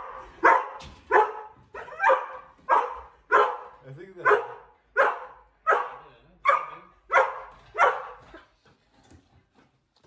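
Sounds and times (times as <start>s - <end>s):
dog barking: 0.0s - 8.4s.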